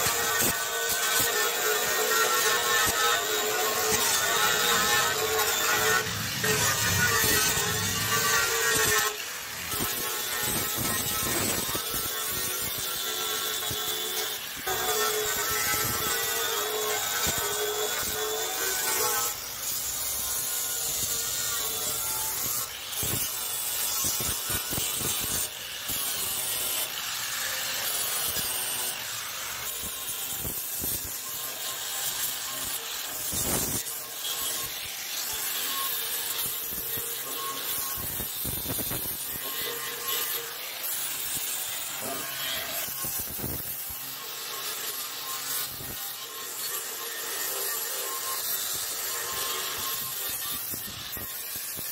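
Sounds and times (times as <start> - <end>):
abrasive scraping on rusted metal: 0.0 - 51.6.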